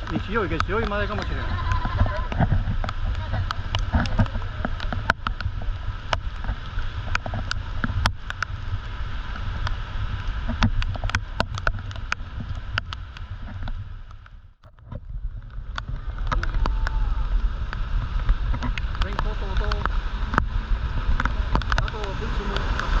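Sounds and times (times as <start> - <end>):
low rumble and hiss of rain: 0.0 - 23.0
raindrops tapping: 0.0 - 23.0.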